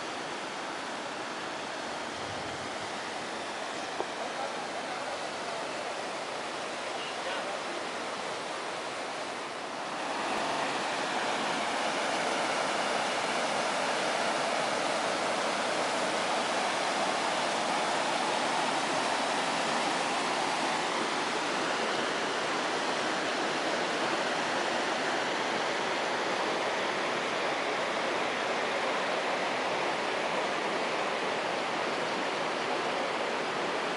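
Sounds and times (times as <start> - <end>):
river rushing over rocks: 0.0 - 33.9.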